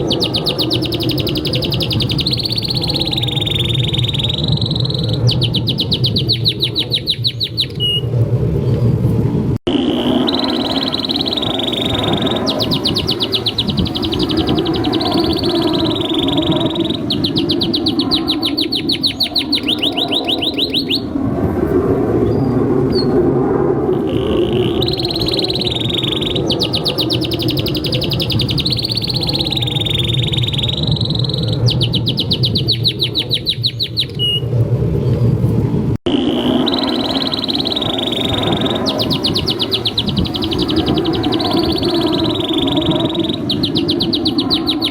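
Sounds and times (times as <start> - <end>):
canary singing trills: 0.0 - 8.1, 9.7 - 21.1, 23.9 - 35.2, 36.1 - 44.9
steady low hum: 0.0 - 44.9.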